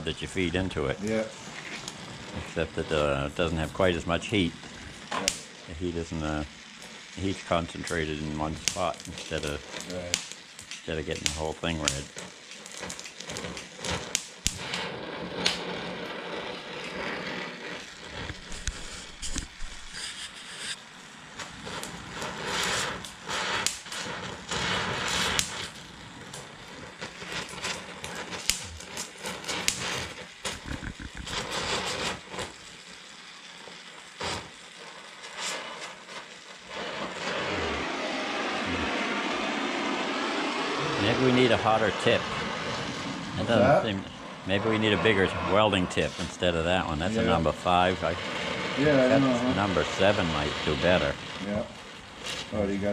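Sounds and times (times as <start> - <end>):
torch flame hissing: 0.0 - 52.9
weld crackling and popping: 0.0 - 52.9.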